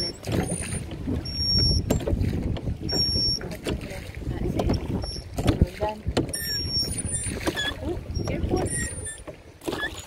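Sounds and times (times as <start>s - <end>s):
water splashing: 0.0s - 10.0s
wind rumbling on microphone: 0.0s - 10.0s.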